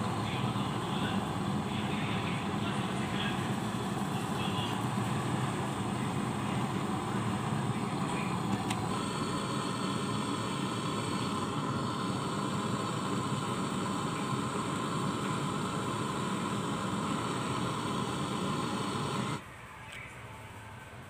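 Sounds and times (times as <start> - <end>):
gas torch hissing: 0.0 - 19.4.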